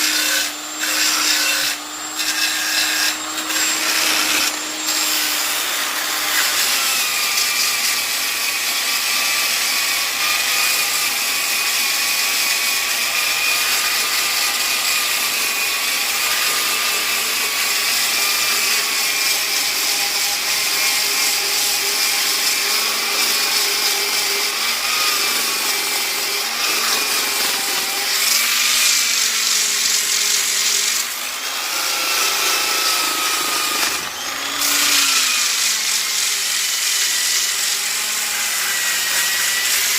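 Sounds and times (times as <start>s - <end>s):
electric polisher sanding wood: 0.0s - 39.9s.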